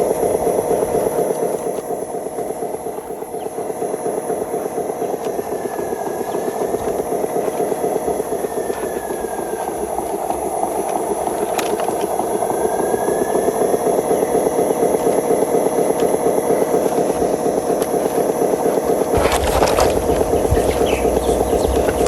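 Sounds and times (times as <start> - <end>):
model truck motor pulsing: 0.0 - 22.0.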